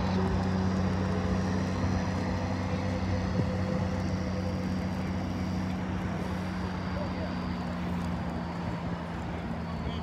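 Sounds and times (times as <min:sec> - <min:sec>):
large engine humming: 0:00.0 - 0:10.0.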